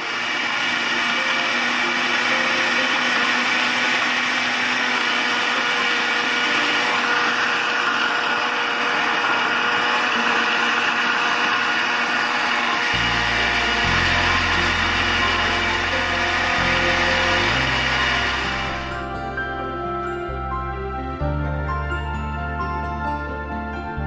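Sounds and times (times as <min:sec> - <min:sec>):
electric blender running: 0:00.0 - 0:20.4.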